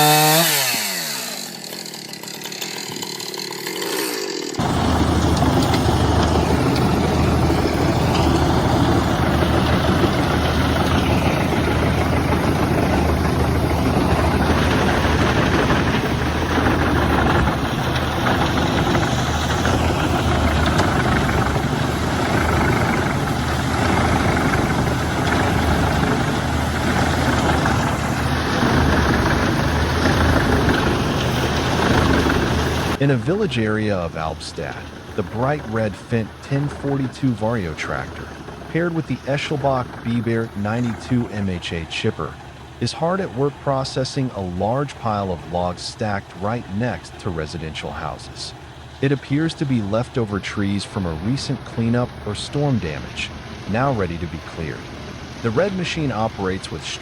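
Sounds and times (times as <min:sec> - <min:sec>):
tractor engine driving wood chipper: 0:00.0 - 0:57.0.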